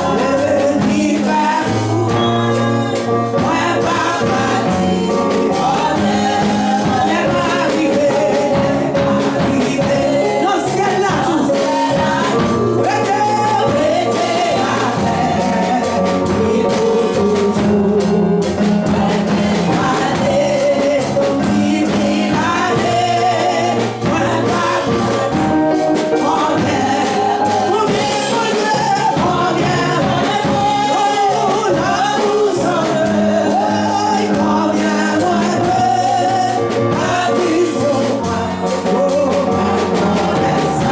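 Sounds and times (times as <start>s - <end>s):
instrumental accompaniment with beat: 0.0s - 40.9s
voices singing gospel song: 0.0s - 40.9s.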